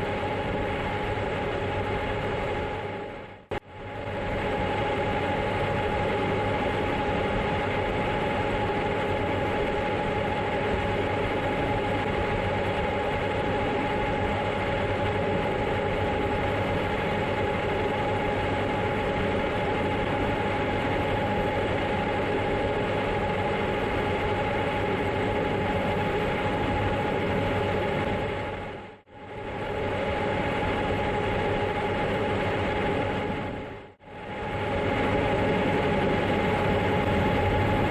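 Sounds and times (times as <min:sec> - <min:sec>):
combine harvester running: 0:00.0 - 0:37.9
steady machine whine: 0:00.0 - 0:37.9.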